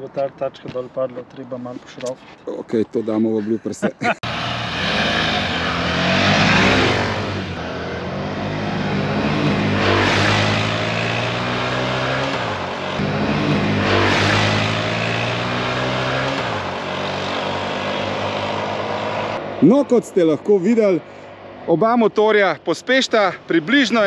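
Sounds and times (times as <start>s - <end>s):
motorcycle engines accelerating: 3.8s - 24.0s
motorbikes passing by: 3.9s - 24.0s.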